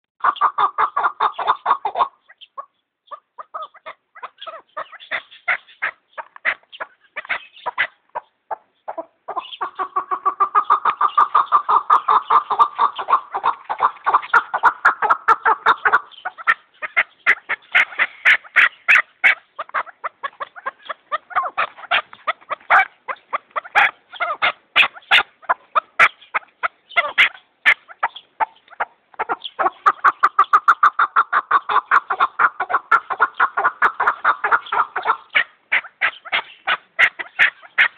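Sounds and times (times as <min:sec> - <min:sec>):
partridge clucking calls: 0:00.2 - 0:37.9.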